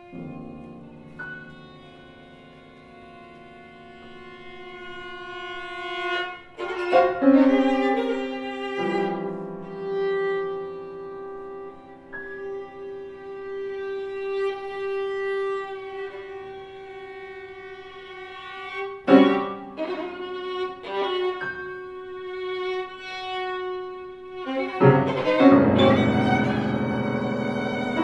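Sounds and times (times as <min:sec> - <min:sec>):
piano: 0:00.0 - 0:28.0
violin: 0:00.0 - 0:28.0.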